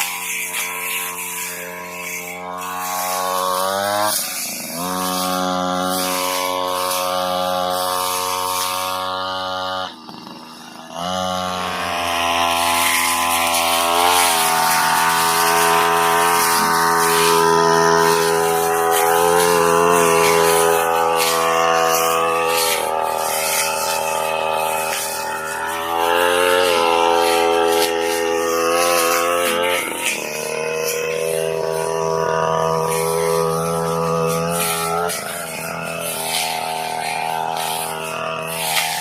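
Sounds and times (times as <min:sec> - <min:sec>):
brush cutter engine running hard: 0:00.0 - 0:39.0.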